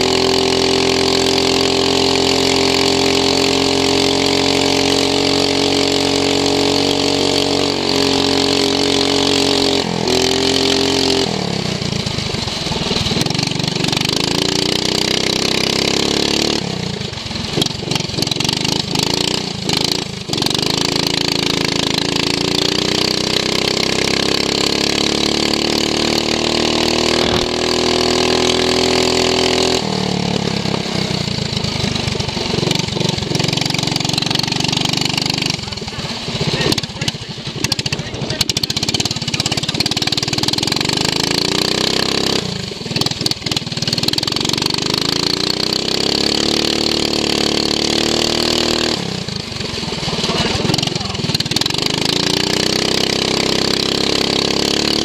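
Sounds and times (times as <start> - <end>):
lawn mower engine revving: 0.0 - 55.0.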